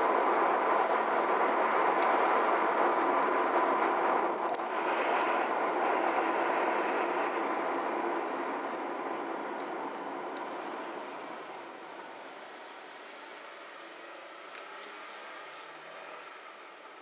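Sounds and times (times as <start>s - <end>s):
road and tyre noise in car: 0.0s - 17.0s.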